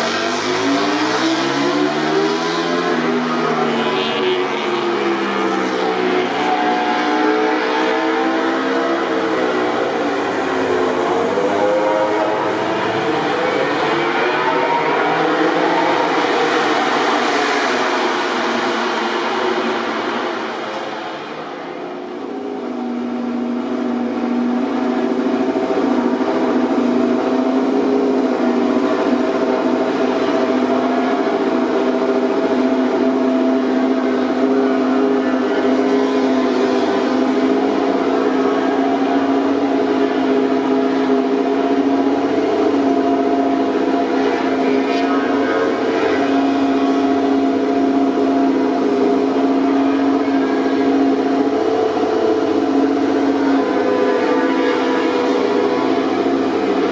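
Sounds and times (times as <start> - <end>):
racing motorcycle engine revving: 0.0 - 56.9.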